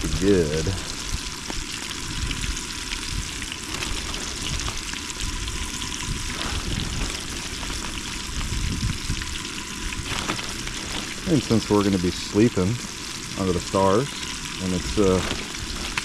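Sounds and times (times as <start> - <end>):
food frying in hot oil: 0.0 - 16.0.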